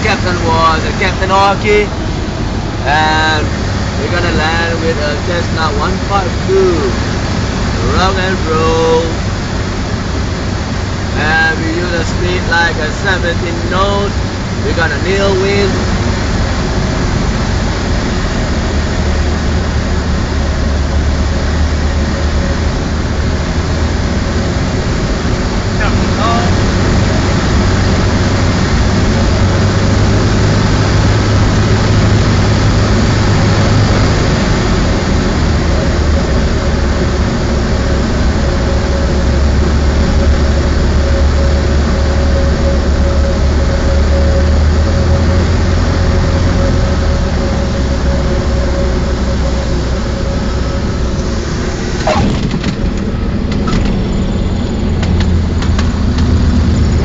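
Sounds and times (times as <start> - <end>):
airplane engine in cabin: 0.0 - 57.0
rushing air: 0.0 - 57.0.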